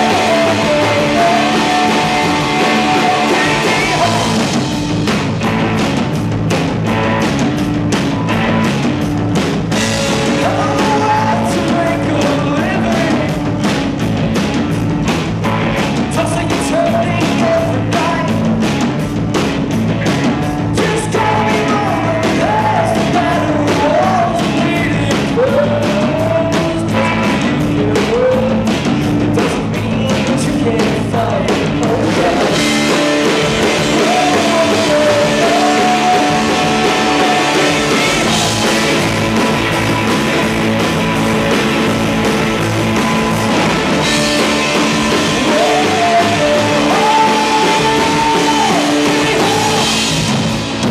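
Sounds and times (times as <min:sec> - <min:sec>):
bass guitar: 0:00.0 - 0:50.9
drum kit beat: 0:00.0 - 0:50.9
electric guitars: 0:00.0 - 0:50.9.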